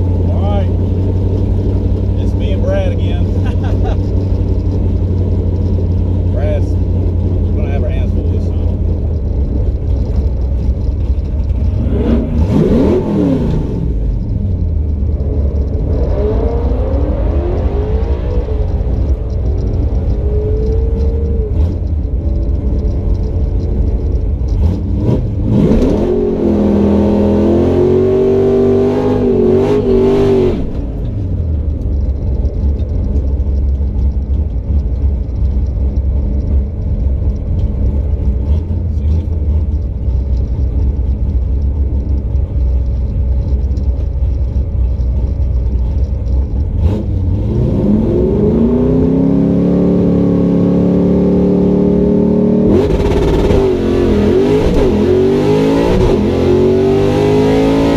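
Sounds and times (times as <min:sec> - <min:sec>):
drag car engine revving: 0:00.0 - 0:57.9.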